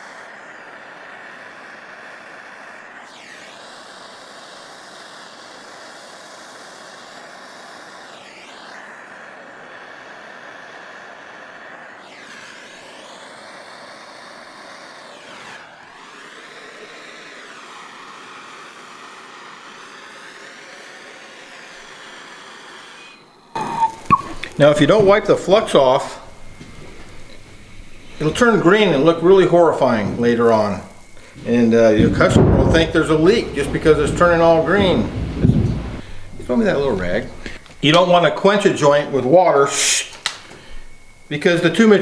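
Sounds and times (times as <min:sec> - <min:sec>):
gas torch hissing: 0:00.0 - 0:42.0.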